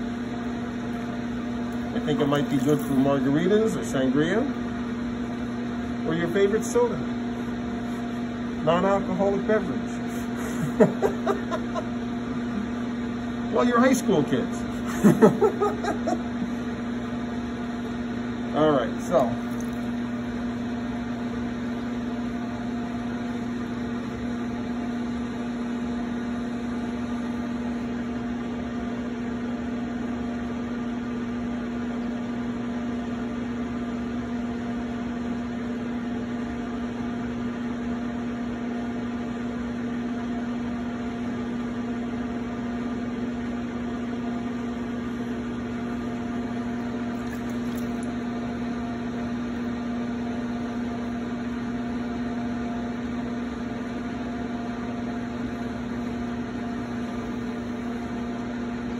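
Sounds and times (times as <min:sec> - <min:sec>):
potter's wheel motor humming: 0:00.0 - 0:58.9.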